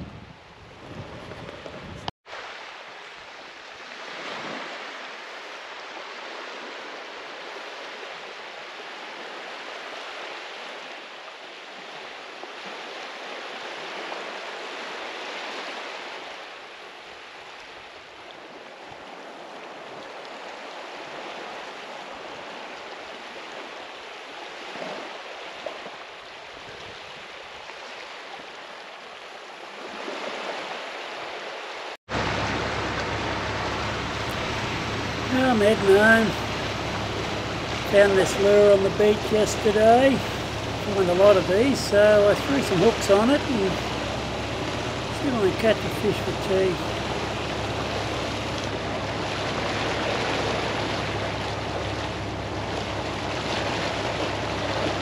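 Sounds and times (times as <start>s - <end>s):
small waves washing onto shore: 0.0s - 55.0s.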